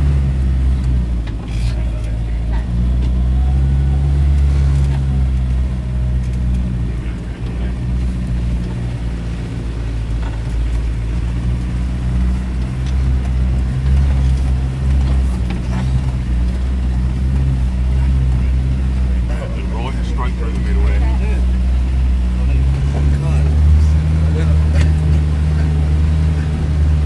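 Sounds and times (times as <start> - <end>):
off-road vehicle engine droning: 0.0 - 27.0.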